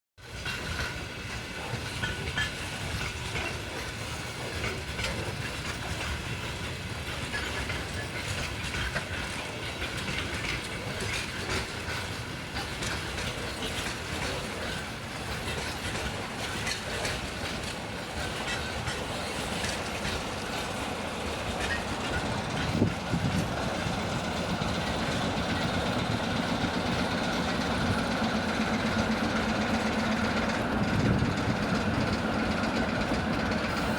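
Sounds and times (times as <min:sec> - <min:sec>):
train wheels clattering on rails: 0:00.2 - 0:33.9.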